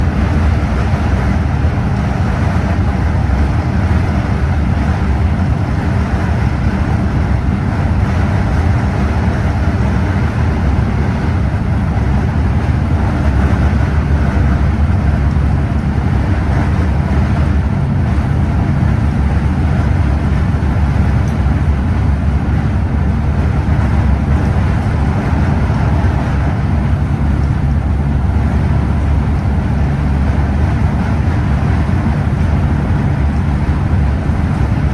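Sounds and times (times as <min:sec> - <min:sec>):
coach engine rumble: 0:00.0 - 0:34.9
road noise: 0:00.0 - 0:34.9.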